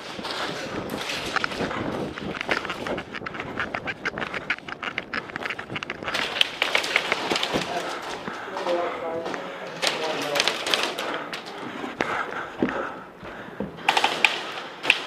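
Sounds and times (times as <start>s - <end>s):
airsoft clicks and taps: 0.2s - 15.0s.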